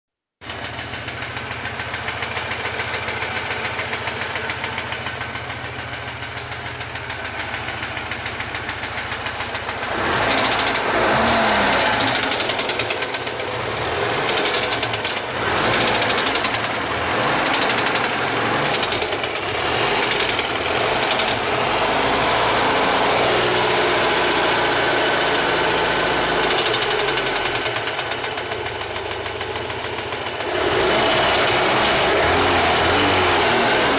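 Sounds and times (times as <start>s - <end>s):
knocking car engine revving: 0.4s - 33.9s.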